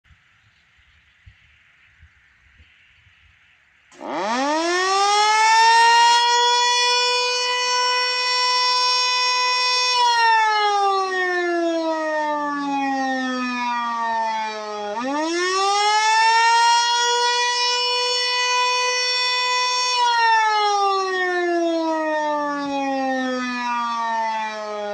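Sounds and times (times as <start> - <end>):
outdoor warning siren: 3.9 - 24.9.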